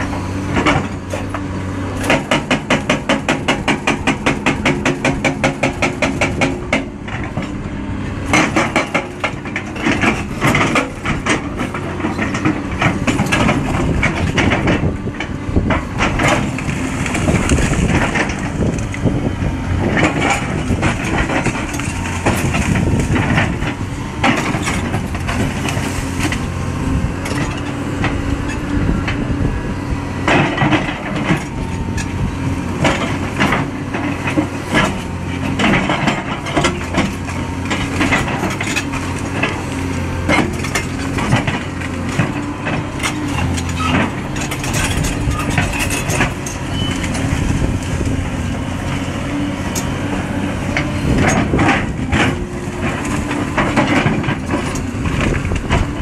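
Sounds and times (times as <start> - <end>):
hydraulic rock breaker hammering: 0.0 - 29.3, 30.2 - 56.0
diesel engine running: 0.0 - 56.0.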